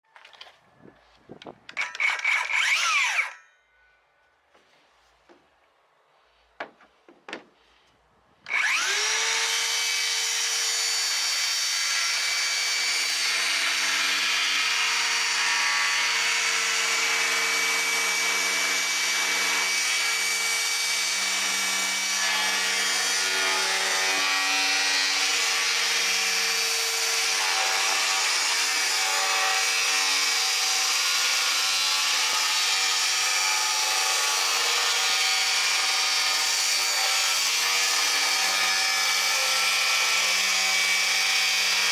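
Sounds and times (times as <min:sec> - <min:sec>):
circular saw cutting wood: 0:01.7 - 0:03.5, 0:08.4 - 0:41.9.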